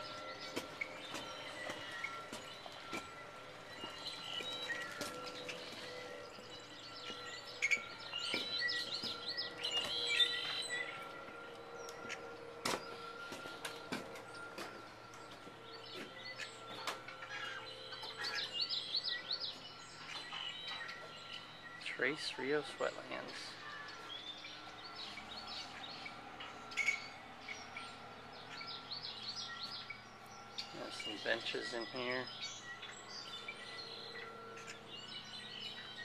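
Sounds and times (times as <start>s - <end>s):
small birds chirping and singing: 0.0s - 36.0s.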